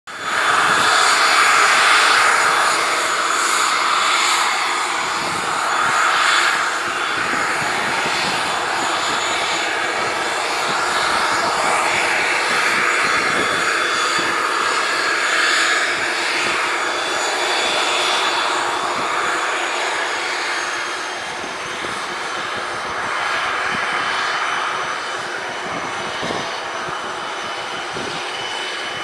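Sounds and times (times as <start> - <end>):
turboprop engine running: 0.1 - 29.0.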